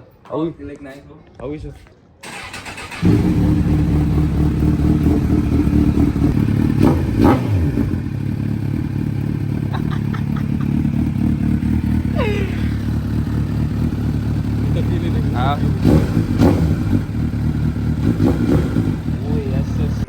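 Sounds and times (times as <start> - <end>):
motorcycle engine idling: 2.3 - 20.0.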